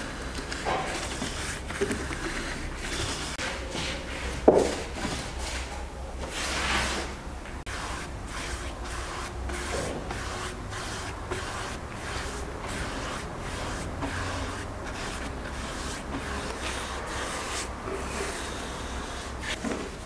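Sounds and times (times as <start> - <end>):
paintbrush strokes on wood: 0.0 - 4.4, 7.6 - 20.0.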